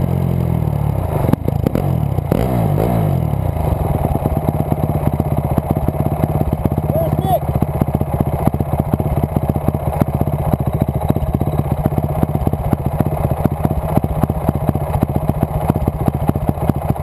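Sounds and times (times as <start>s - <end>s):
dirt bike engine idling: 0.0s - 17.0s.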